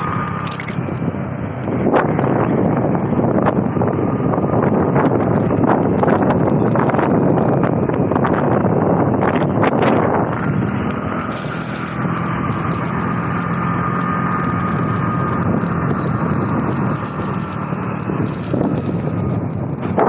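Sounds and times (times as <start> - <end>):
crackly rattle: 0.0 - 20.0
vehicle engine running: 0.0 - 20.0.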